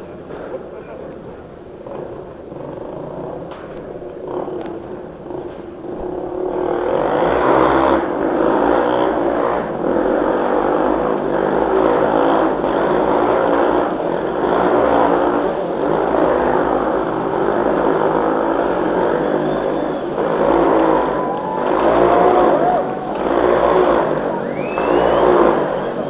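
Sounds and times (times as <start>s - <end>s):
motorcycles revving: 1.8s - 26.0s.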